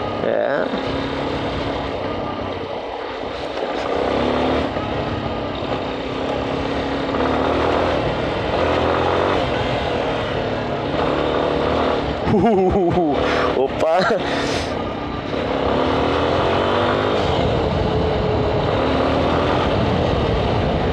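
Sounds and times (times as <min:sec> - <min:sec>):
motorcycle engine revving: 0:00.0 - 0:20.9
wind and road noise: 0:00.0 - 0:20.9.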